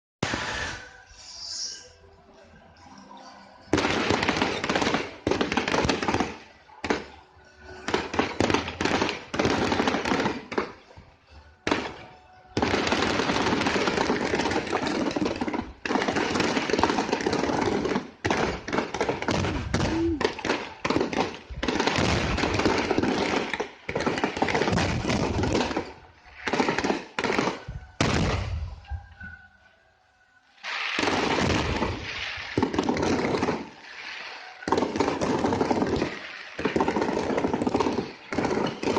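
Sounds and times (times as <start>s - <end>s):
fireworks bangs and crackling: 0.2s - 1.0s, 3.7s - 28.9s, 30.5s - 38.9s.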